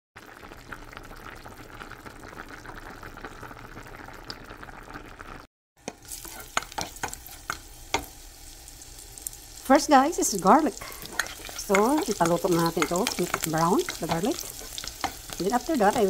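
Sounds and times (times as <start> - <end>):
food sizzling in hot oil: 0.2 - 16.0.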